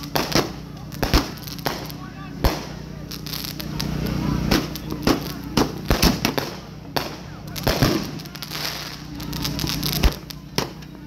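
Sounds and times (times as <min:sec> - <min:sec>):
firework bangs: 0:00.0 - 0:11.0
firework fountain hissing: 0:00.0 - 0:11.0.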